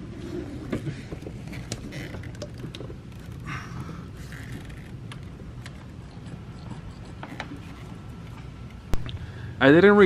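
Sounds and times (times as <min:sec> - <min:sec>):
low steady hum: 0:00.0 - 0:10.0
small clicks rubs and creaks: 0:00.2 - 0:08.9.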